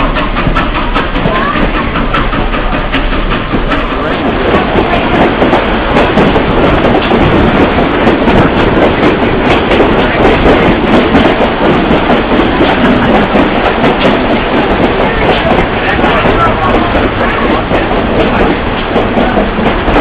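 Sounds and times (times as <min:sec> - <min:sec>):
train car rumbling: 0:00.0 - 0:20.0
wheels clicking over rail joints: 0:00.0 - 0:20.0.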